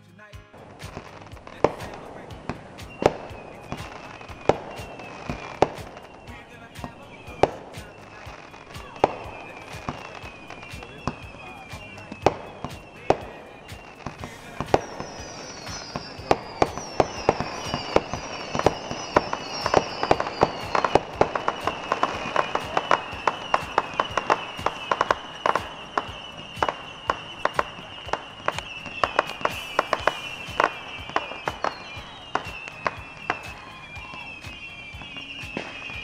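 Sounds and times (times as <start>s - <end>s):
firecrackers popping: 0.0s - 36.0s
steady high whistle: 0.6s - 36.0s
short falling whistles: 0.8s - 36.0s.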